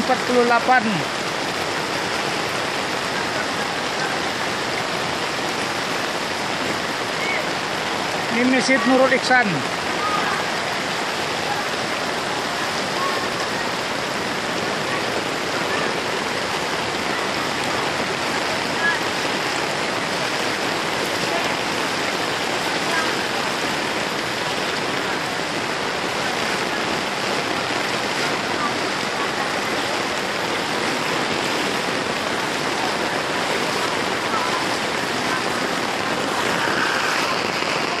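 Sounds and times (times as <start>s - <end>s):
rain falling on flooded street: 0.0s - 38.0s.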